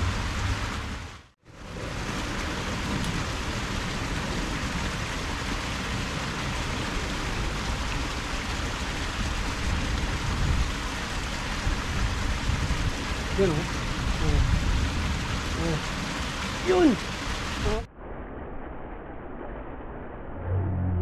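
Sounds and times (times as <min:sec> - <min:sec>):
water rushing: 0:00.0 - 0:17.9.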